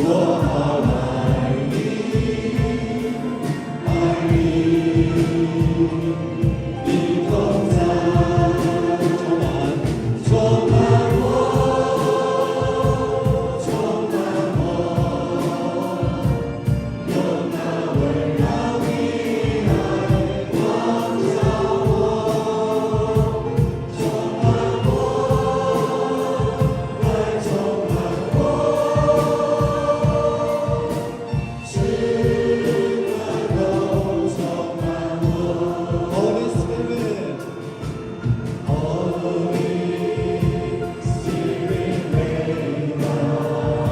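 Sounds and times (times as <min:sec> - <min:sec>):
band with steady beat: 0:00.0 - 0:43.9
group of voices singing: 0:00.0 - 0:43.9.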